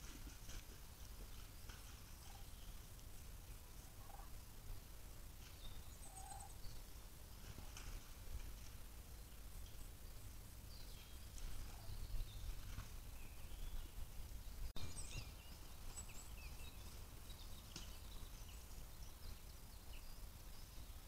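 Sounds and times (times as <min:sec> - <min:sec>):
wind rumble on microphone: 0:00.0 - 0:21.0
small birds singing and chirping: 0:01.1 - 0:07.3, 0:09.1 - 0:21.0.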